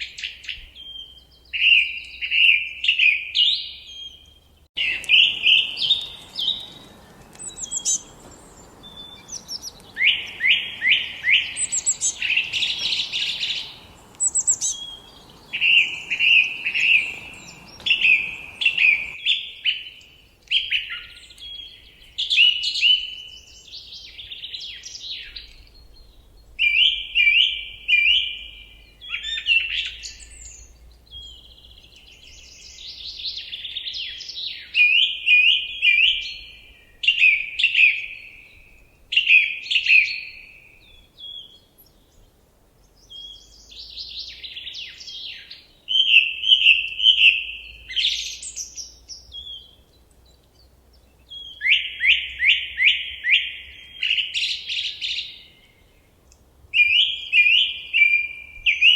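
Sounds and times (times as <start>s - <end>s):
songbird singing trills: 0.0s - 58.9s.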